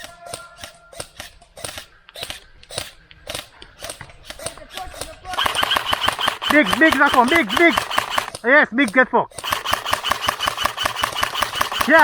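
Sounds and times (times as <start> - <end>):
airsoft gunshots: 0.0 - 12.0.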